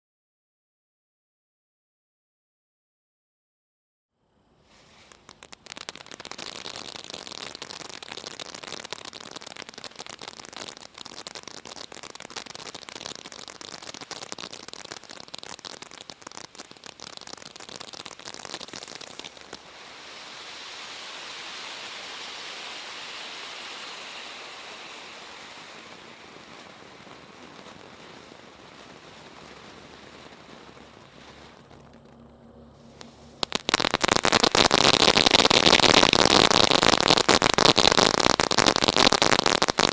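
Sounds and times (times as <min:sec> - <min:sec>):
firework crackling: 0:04.7 - 0:39.9.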